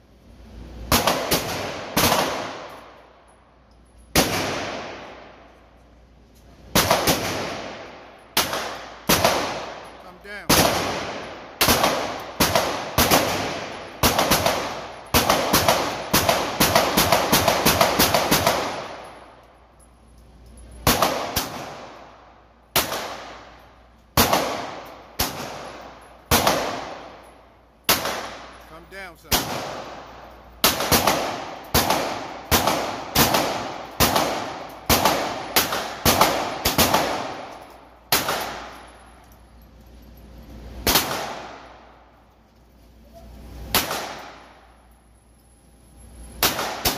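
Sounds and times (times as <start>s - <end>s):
handgun shots echoing indoors: 0.9s - 5.7s, 6.6s - 19.5s, 20.5s - 39.4s, 40.7s - 42.2s, 43.7s - 45.0s, 46.3s - 46.9s.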